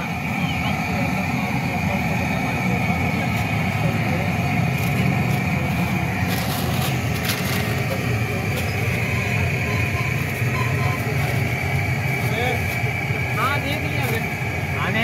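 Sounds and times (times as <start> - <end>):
engine rumble: 0.0 - 15.0
high whine: 0.0 - 15.0.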